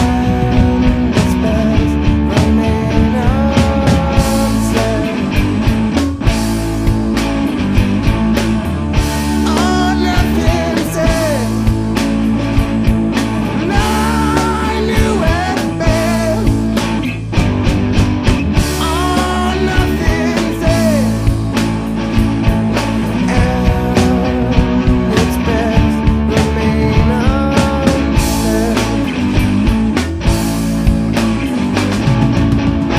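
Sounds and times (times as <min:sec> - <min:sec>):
bass guitar: 0:00.0 - 0:32.9
electric guitar lines: 0:00.0 - 0:32.9
steady drum beat: 0:00.0 - 0:32.9.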